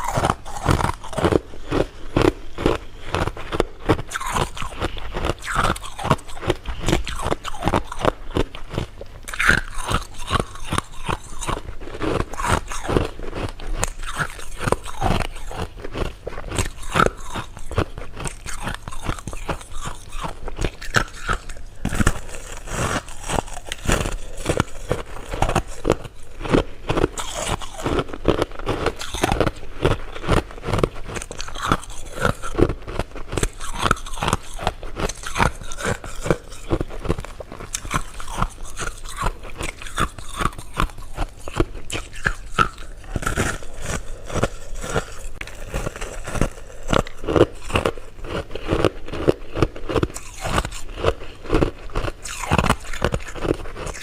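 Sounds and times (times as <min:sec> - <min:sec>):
crunching hard candy: 0:00.0 - 0:54.0.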